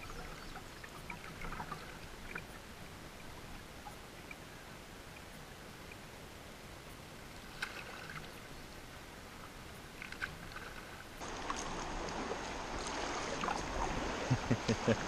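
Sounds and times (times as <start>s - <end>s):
paddle splashes and drips: 0.0s - 6.0s, 7.3s - 8.6s, 9.3s - 15.0s
river water noise: 0.0s - 15.0s.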